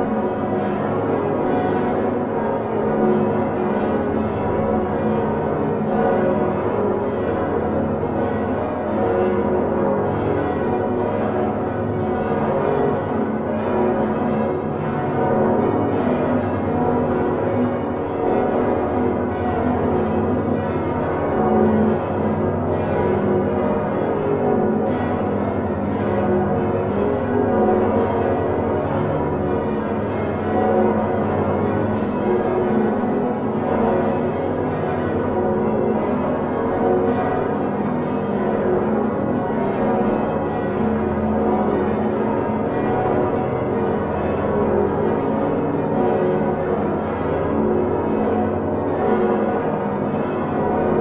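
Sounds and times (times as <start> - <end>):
church bells ringing in peal: 0.0 - 51.0.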